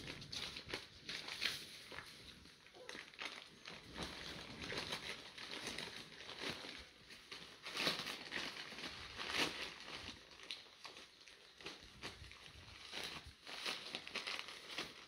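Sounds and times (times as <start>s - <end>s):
newspaper rustling and crinkling: 0.0s - 15.0s.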